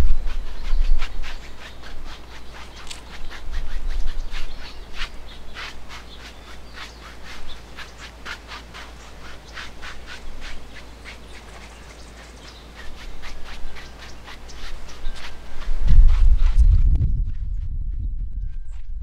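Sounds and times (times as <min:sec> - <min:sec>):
paintbrush scrubbing on canvas: 0:00.0 - 0:17.8.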